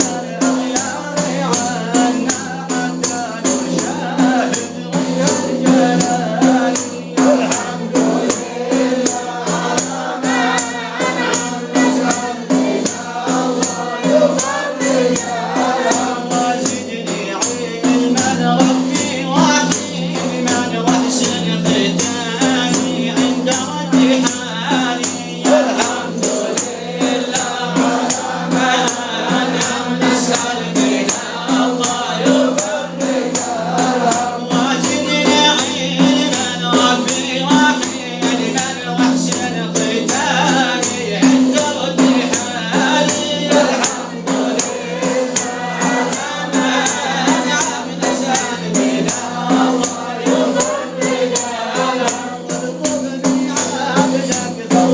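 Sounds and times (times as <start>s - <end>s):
fast frame drum beat: 0.0s - 54.9s
group chanting: 0.0s - 54.9s.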